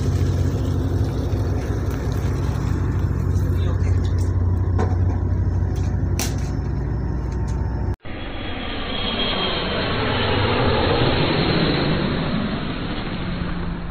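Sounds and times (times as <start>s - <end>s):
ship engine droning: 0.0s - 13.9s.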